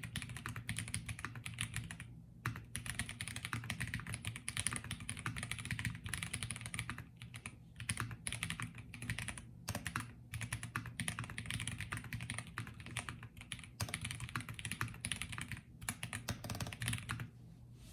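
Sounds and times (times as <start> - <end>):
mechanical keyboard typing: 0.0 - 17.3.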